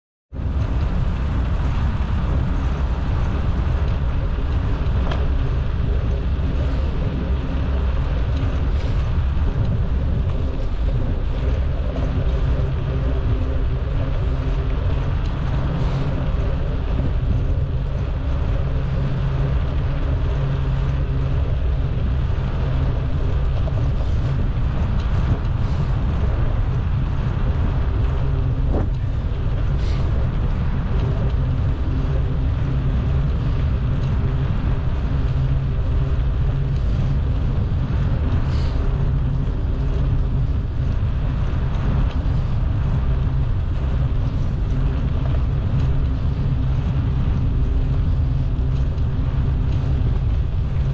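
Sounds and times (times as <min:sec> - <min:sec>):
constant low hum: 0:00.3 - 0:50.9
road rumble while riding: 0:00.3 - 0:50.9.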